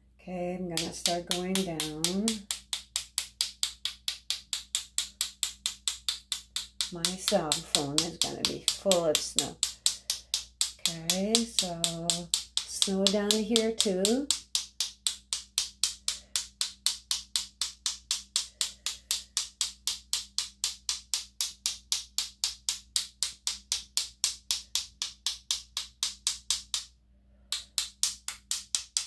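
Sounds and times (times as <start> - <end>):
paint brush tapping: 0.7 - 26.9, 27.5 - 29.0.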